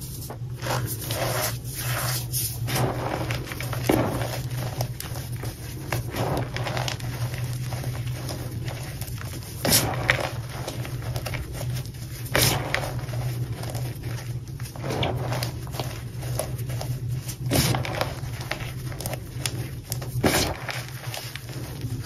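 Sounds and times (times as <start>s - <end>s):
hands squeezing powder: 0.0s - 22.0s
steady low hum: 0.0s - 22.0s.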